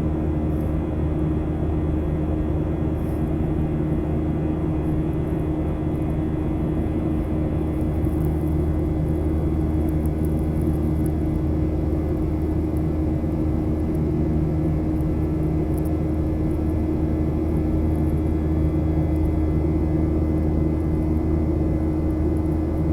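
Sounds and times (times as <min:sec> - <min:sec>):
constant low hum: 0:00.0 - 0:22.9
jet engine drone in cabin: 0:00.0 - 0:22.9.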